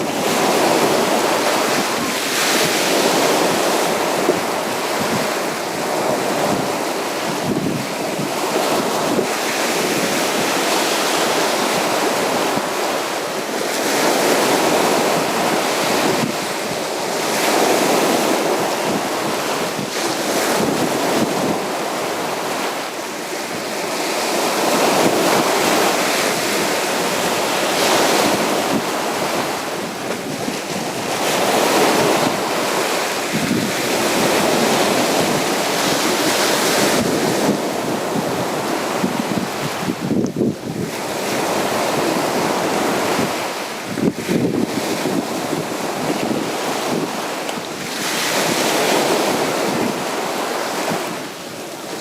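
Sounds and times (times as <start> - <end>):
sea waves breaking on beach: 0.0 - 52.0.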